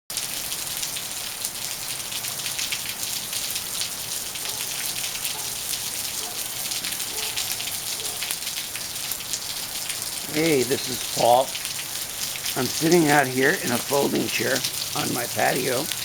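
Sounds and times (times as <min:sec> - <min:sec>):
raindrops pattering: 0:00.1 - 0:16.0
steady rain hiss: 0:00.2 - 0:16.0.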